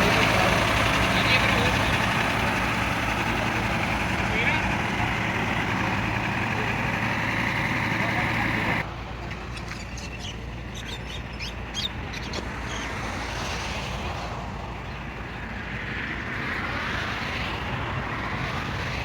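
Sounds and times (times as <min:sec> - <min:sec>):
low engine rumble: 0:00.0 - 0:19.0
road vehicle passing: 0:00.0 - 0:19.0.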